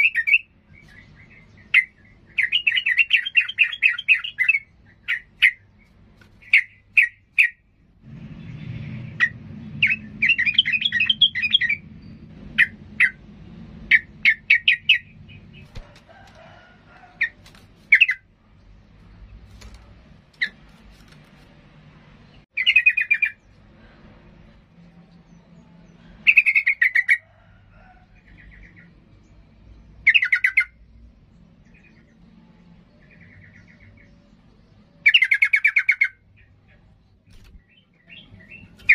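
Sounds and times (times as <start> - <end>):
bird chirping calls: 0.0 - 7.8, 8.4 - 21.3, 22.2 - 23.6, 24.9 - 27.5, 28.1 - 38.9.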